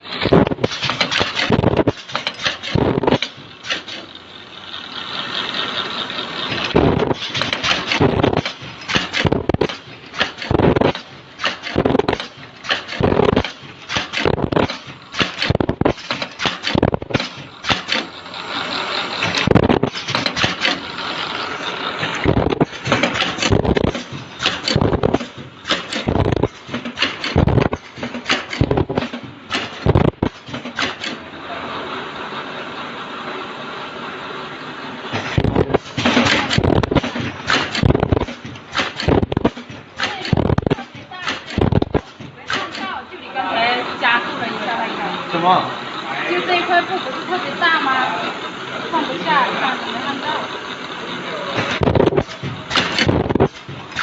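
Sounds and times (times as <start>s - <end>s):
machine clattering: 0.0s - 31.6s, 34.7s - 54.0s.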